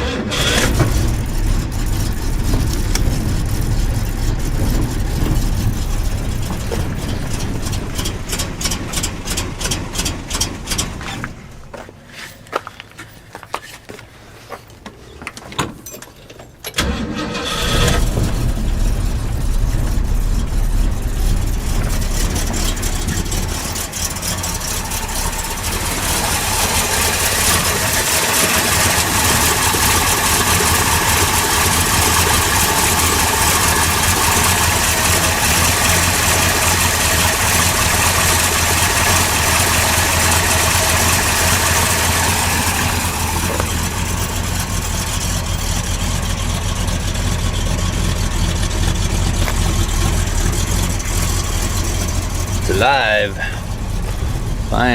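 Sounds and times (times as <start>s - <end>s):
car engine running: 0.0s - 11.8s, 16.8s - 54.9s.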